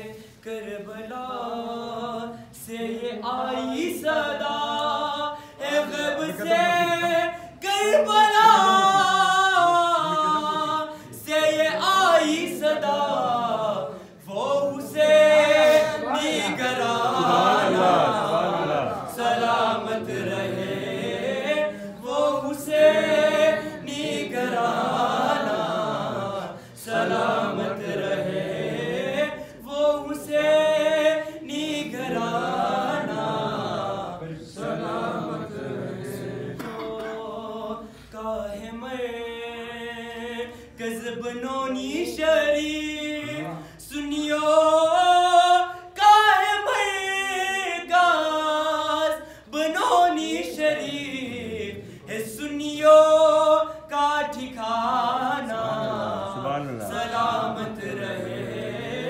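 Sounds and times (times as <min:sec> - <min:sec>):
group singing unaccompanied chant: 0:00.0 - 0:59.0.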